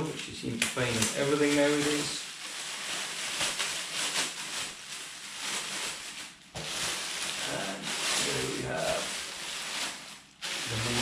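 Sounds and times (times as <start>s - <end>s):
plastic bag rustling: 0.8s - 11.0s.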